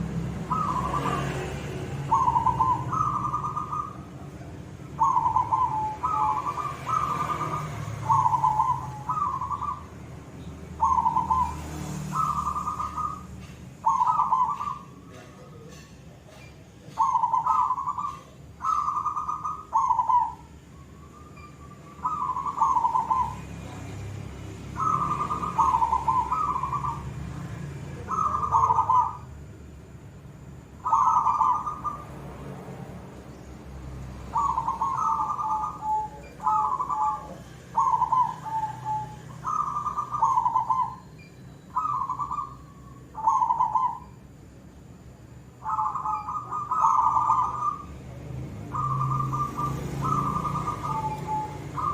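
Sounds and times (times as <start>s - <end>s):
dove cooing: 0.0s - 29.4s, 30.8s - 33.2s, 34.1s - 44.3s, 45.5s - 51.9s.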